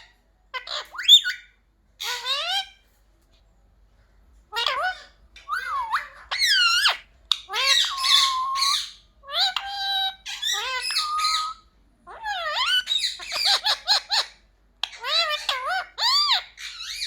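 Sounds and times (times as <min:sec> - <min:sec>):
parrot squawking and chattering: 0:00.0 - 0:02.8, 0:04.5 - 0:17.0.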